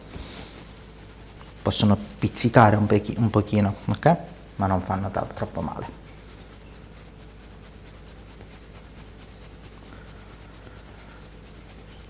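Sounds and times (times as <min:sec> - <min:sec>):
fingertips rubbing skin: 0:00.0 - 0:12.0
low room hum: 0:00.0 - 0:12.0.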